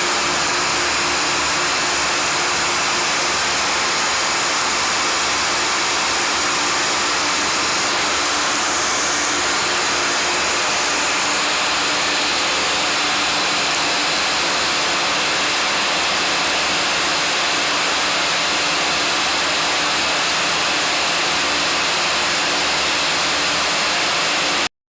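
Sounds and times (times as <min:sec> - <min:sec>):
yarn twisting machine whirring: 0:00.0 - 0:24.7.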